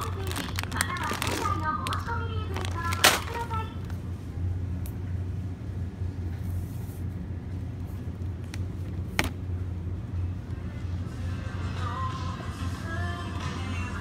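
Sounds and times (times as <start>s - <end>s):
supermarket background rumble: 0.0s - 14.0s.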